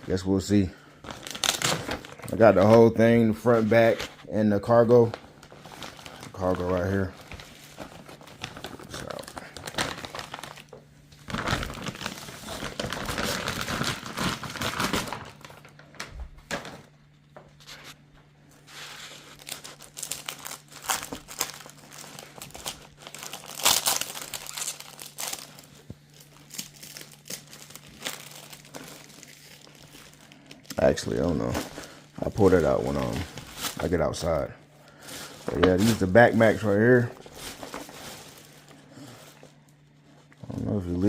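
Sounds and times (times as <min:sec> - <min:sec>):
plastic packaging crinkling: 0:00.1 - 0:04.0, 0:04.6 - 0:16.9, 0:18.6 - 0:41.0.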